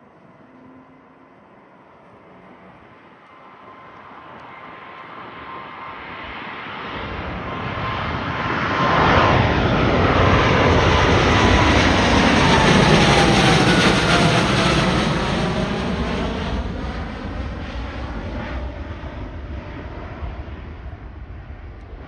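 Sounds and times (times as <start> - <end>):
jet engine roar: 0.0 - 22.0
jet engine whine falling in pitch: 0.0 - 22.0.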